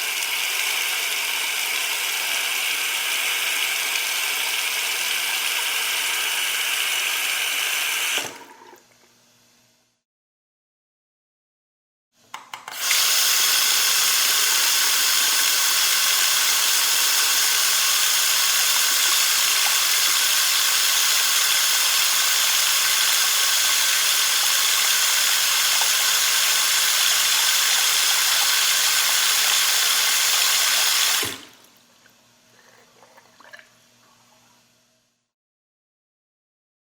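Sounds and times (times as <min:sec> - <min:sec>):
tap water running: 0:00.0 - 0:09.1, 0:12.7 - 0:33.8.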